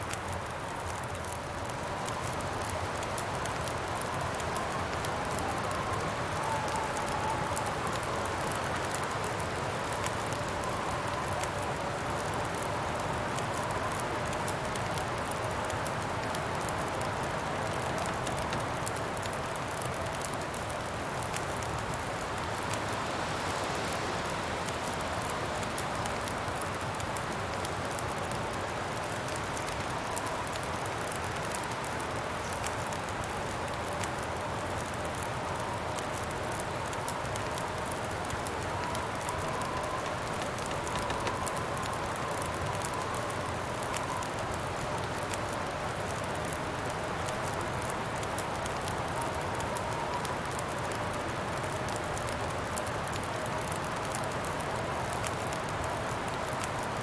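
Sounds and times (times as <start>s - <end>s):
campfire crackling: 0.0s - 57.0s
wind howling: 0.6s - 32.9s, 33.6s - 52.5s.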